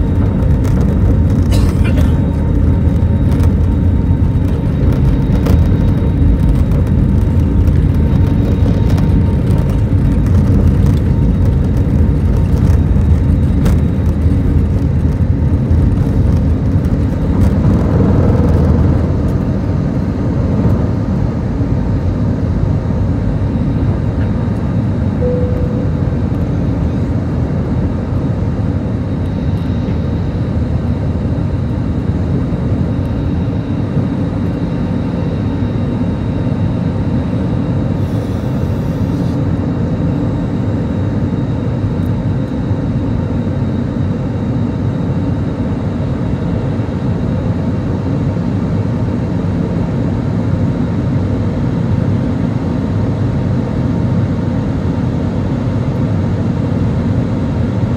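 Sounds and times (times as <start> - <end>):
jet engine drone in cabin: 0.0 - 57.9.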